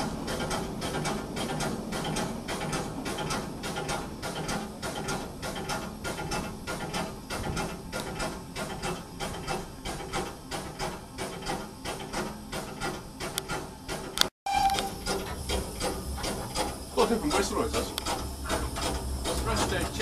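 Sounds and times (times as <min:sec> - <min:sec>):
steam engine exhaust beat: 0:00.0 - 0:20.0
steam hissing: 0:00.0 - 0:20.0.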